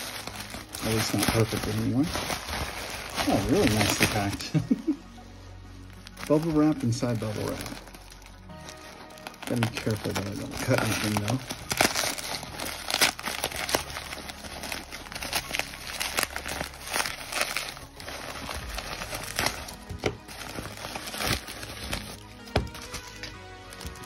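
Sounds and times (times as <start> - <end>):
background music: 0.0 - 24.0
bubble wrap crackling: 0.0 - 24.0.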